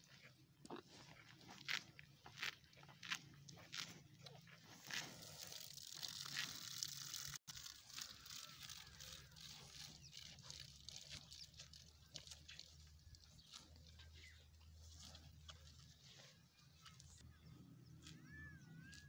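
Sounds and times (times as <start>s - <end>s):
cattle chewing grass: 0.0s - 19.0s.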